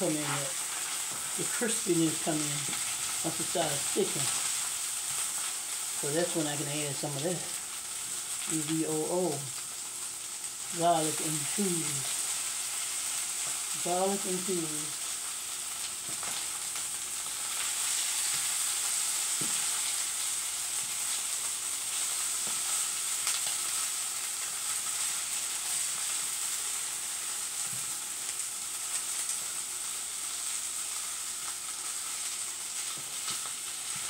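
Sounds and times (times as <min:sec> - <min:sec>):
food sizzling in a skillet: 0:00.0 - 0:34.0.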